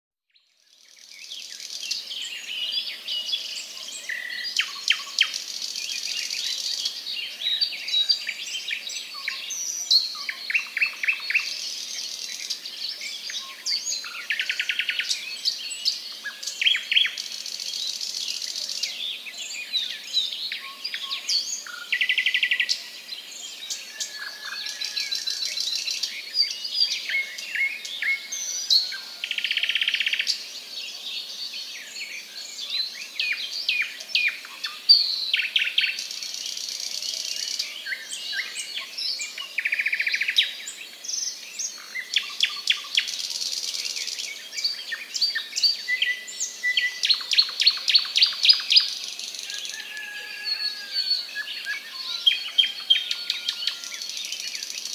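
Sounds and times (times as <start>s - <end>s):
birds chirping and singing: 0.6s - 54.9s.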